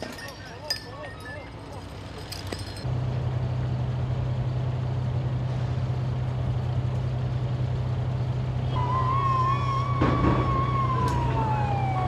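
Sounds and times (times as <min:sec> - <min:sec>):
heavy truck engine droning: 0:01.3 - 0:12.0.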